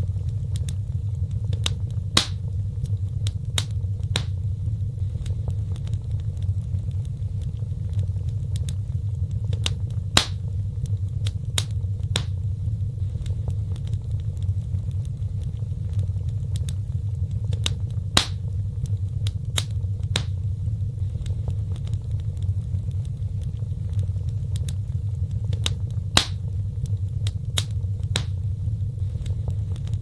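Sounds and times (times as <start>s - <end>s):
fire crackling and popping: 0.0s - 30.0s
fire rumbling: 0.0s - 30.0s.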